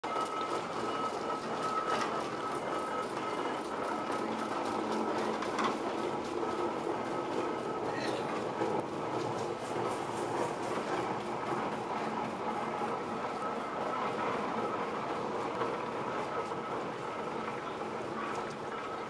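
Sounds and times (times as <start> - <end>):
steam locomotive exhaust beats: 0.0 - 19.0.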